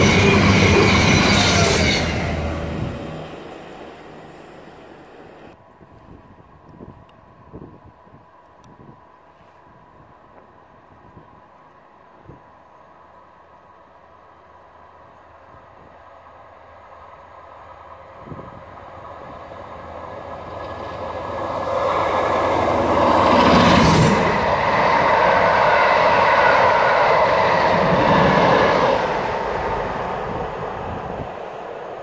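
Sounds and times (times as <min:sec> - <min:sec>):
diesel train passing: 0:00.0 - 0:09.3, 0:09.9 - 0:32.0.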